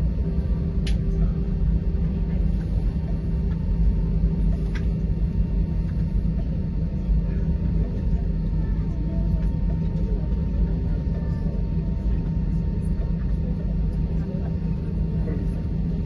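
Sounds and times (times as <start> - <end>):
airplane cabin rumble and hum: 0.0 - 16.0.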